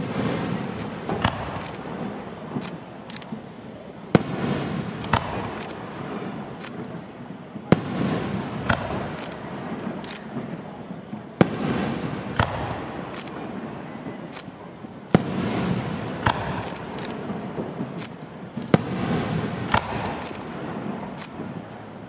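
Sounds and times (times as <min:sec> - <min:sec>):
firework shells bursting: 0:00.0 - 0:22.0.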